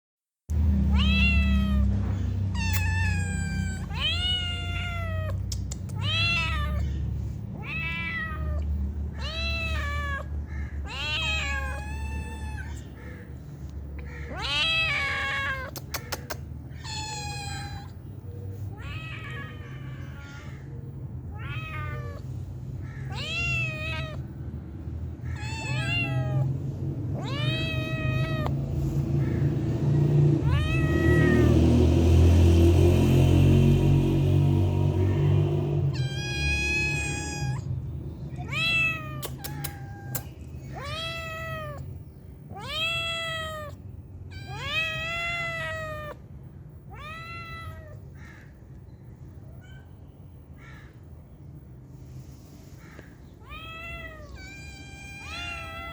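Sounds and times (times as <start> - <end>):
kittens meowing: 0.7 - 32.4, 34.8 - 51.1, 52.8 - 55.9.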